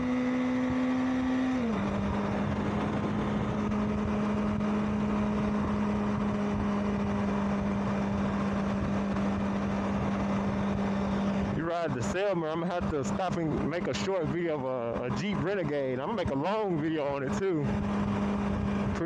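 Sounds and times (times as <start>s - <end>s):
motorcycle engine running: 0.0s - 19.0s
wind rush: 0.6s - 19.0s.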